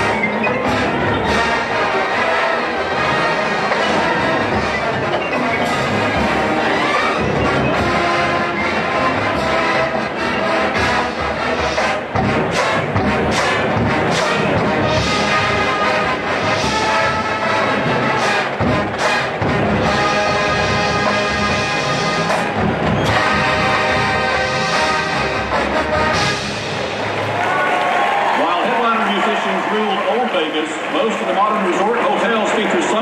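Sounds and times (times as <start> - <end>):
marching band brass: 0.0 - 29.3
drumline hits: 0.0 - 33.0.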